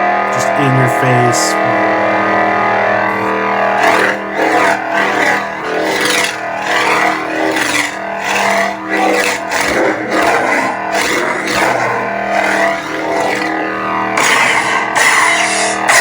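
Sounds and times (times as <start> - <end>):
lightsaber buzzing hum: 0.0 - 16.0.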